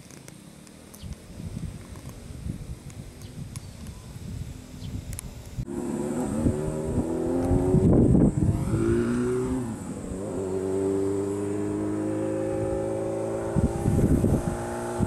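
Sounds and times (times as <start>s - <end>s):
vehicle engine running: 0.6s - 15.0s
wind buffeting microphone: 0.9s - 15.0s.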